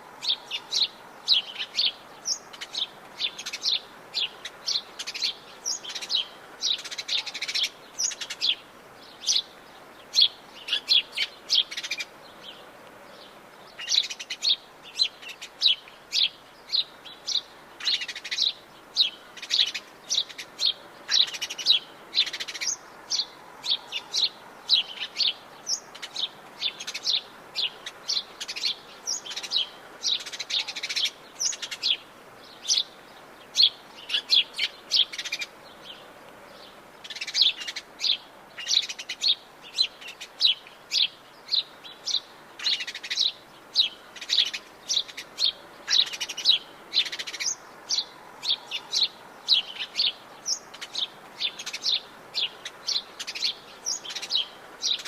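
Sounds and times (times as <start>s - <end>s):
faint forest background: 0.0s - 55.0s
small birds chirping and trilling: 0.0s - 55.0s.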